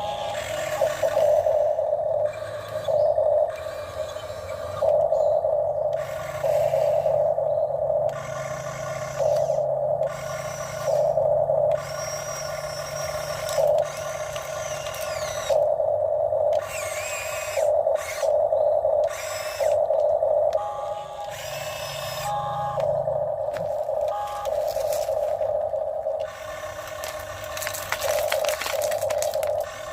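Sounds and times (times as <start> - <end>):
electric motors whirring: 0.0 - 29.9
high whine sliding in pitch: 0.0 - 29.9
steady low hum: 0.0 - 29.9.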